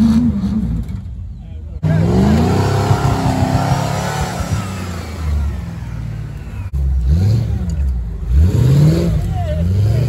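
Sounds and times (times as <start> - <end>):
off-road vehicle engine revving: 0.0 - 1.1, 1.8 - 10.0.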